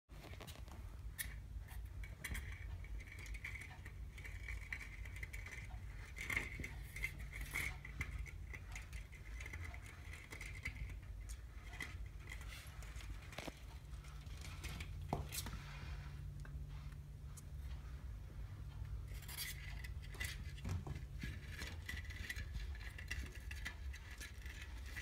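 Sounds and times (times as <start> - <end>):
low steady hum: 0.1 - 25.0.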